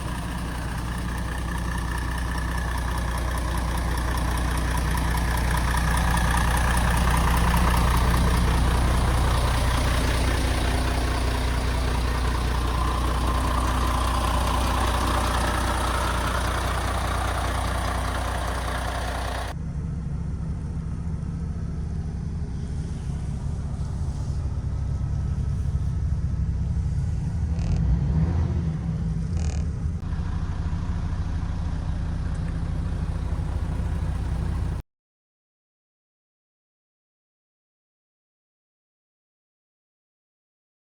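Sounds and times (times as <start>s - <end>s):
diesel engine idling: 0.0s - 27.6s, 29.1s - 34.8s.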